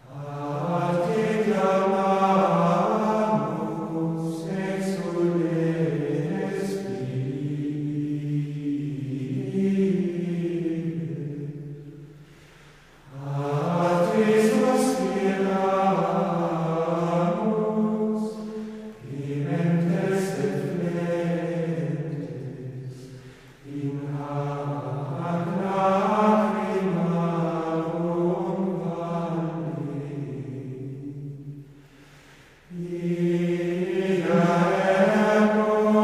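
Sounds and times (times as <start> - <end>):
chanted vocal singing: 0.0 - 12.2, 13.0 - 31.6, 32.7 - 36.0.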